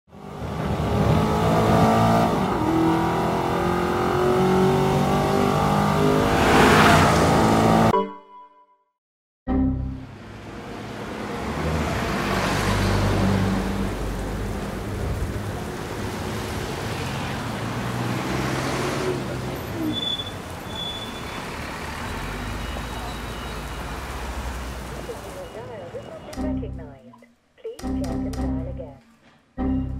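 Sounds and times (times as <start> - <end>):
traffic engine hum and tyre noise: 0.1 - 7.9, 10.0 - 27.0.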